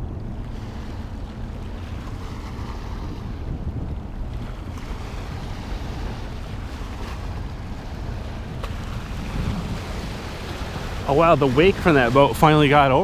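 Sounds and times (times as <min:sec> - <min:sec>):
river water washing: 0:00.0 - 0:13.0
wind buffeting microphone: 0:00.0 - 0:13.0.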